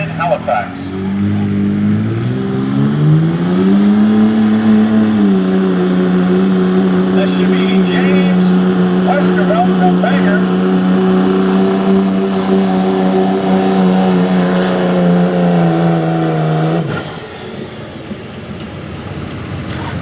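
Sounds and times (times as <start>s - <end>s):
pickup engine at full throttle: 0.0s - 20.0s.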